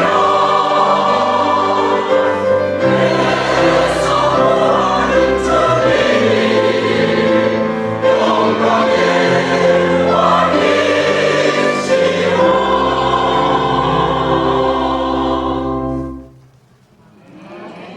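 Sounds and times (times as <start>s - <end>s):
church choir singing a hymn: 0.0s - 16.4s.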